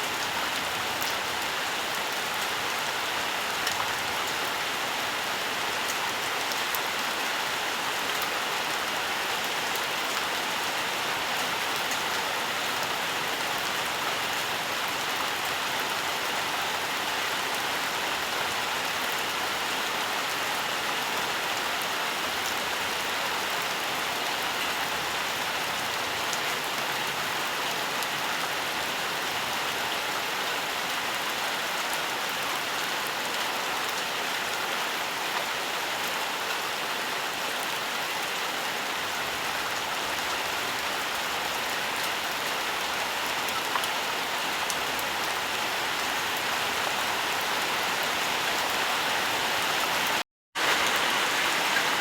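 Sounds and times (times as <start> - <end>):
steady rainfall: 0.0 - 52.0.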